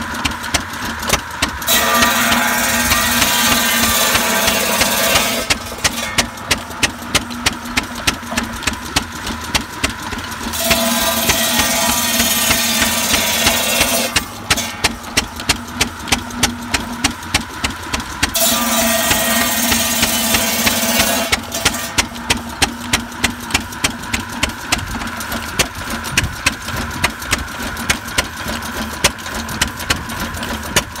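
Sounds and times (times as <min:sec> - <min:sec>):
circular saw cutting logs: 0:00.0 - 0:31.0.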